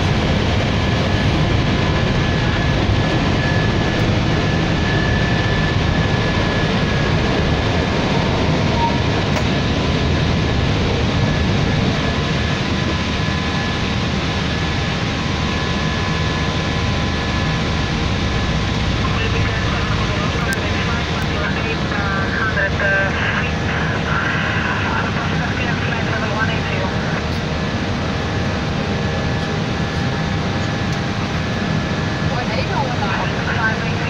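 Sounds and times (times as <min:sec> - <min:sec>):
airflow and engine noise: 0:00.0 - 0:34.0.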